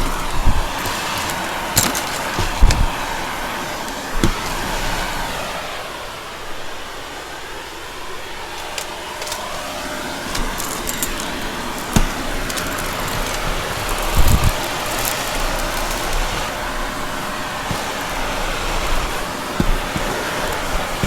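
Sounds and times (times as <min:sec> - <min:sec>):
vacuum cleaner sucking debris: 0:00.0 - 0:06.4, 0:07.0 - 0:21.0.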